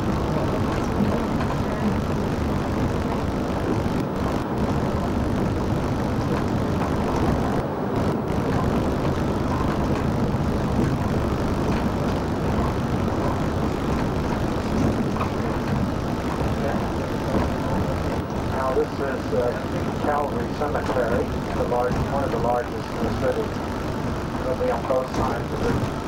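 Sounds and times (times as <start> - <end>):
engine and road noise inside coach: 0.0 - 26.0.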